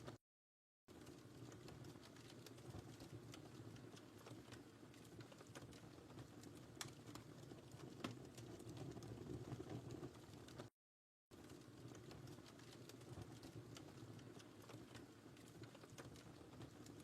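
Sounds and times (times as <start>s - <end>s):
wood fire rumbling: 0.9s - 10.7s, 11.4s - 17.0s
fire pops and snaps: 1.0s - 10.7s, 11.4s - 17.0s.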